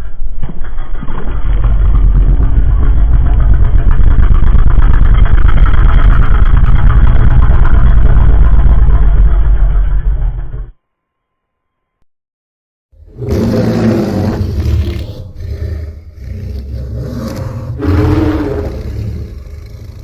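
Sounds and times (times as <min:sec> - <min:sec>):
rough low monster rumble: 0:00.6 - 0:10.7, 0:13.0 - 0:20.0.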